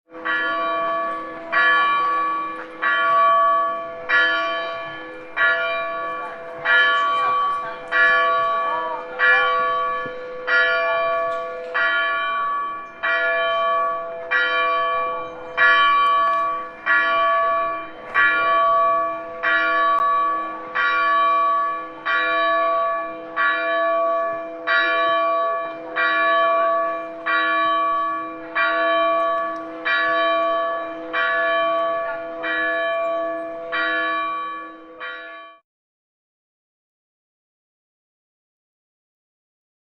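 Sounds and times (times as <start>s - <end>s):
church bell tolling: 0.1s - 35.6s.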